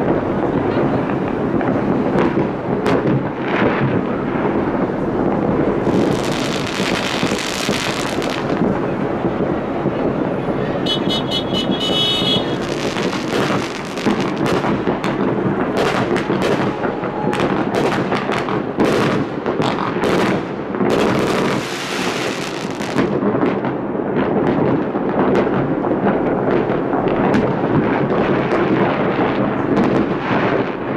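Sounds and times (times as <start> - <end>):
fireworks booming: 0.0 - 30.9
fireworks cracking and crackling: 0.0 - 30.9.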